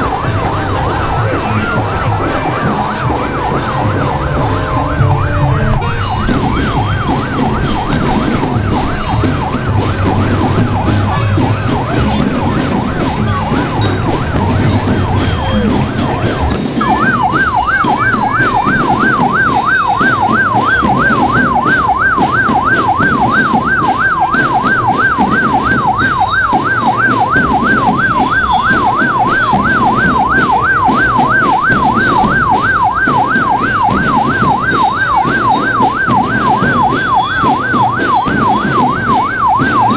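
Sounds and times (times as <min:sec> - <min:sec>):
low rumbling street noise: 0:00.0 - 0:39.9
siren yelping: 0:00.0 - 0:39.9.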